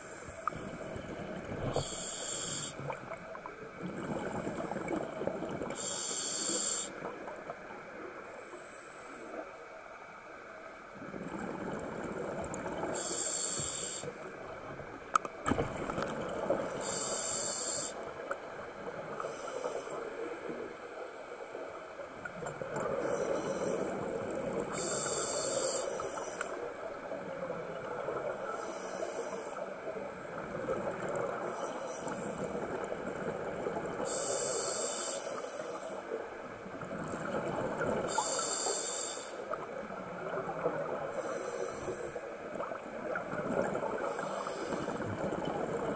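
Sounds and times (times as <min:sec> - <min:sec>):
underwater noise: 0:00.0 - 0:45.9.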